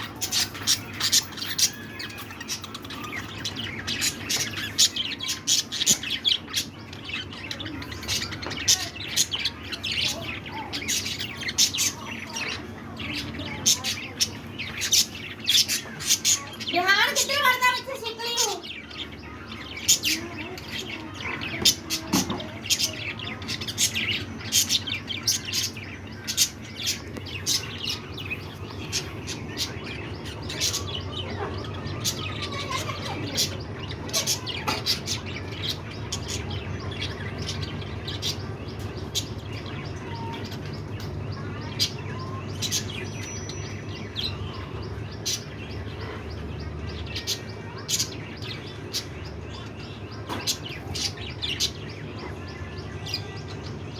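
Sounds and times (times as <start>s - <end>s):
budgerigars chirping: 0.0s - 53.9s.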